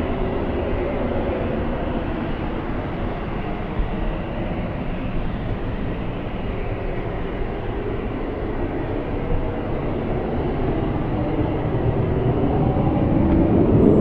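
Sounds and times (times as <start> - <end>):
steady jet engine roar: 0.0 - 14.0.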